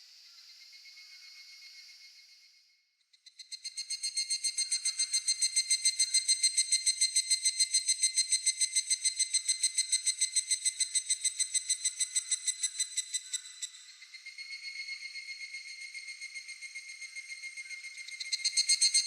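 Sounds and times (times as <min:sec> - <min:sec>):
cicada pulsed trill: 0:03.3 - 0:19.0.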